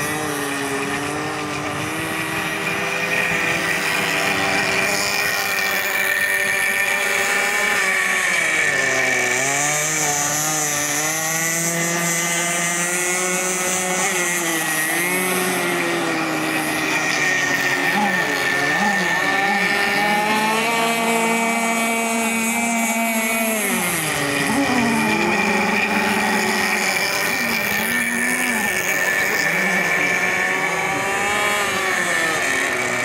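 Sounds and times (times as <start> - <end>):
model boat engine buzzing: 0.0 - 33.0.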